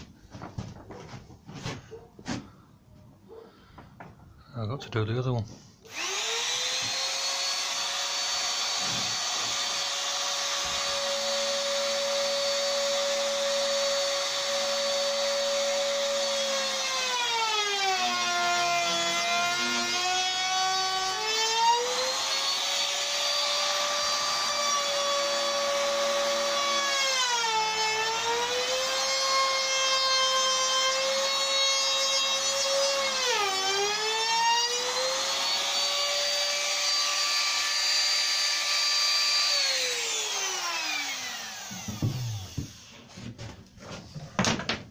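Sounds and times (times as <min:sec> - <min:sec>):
trim router whining: 0:05.9 - 0:43.0.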